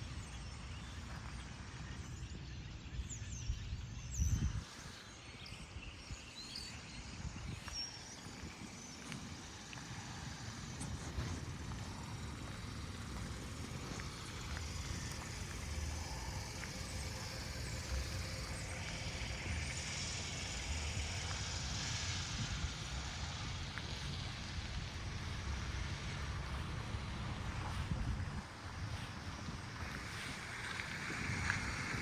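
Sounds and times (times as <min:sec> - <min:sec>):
steady outdoor hiss: 0:00.0 - 0:32.0
wind rumbling on microphone: 0:00.0 - 0:32.0.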